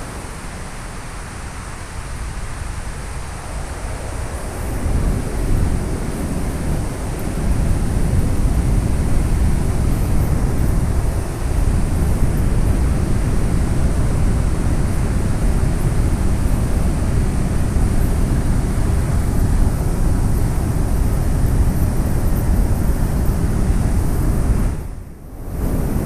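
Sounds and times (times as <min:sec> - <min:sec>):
wind buffeting microphone: 0:04.1 - 0:26.0.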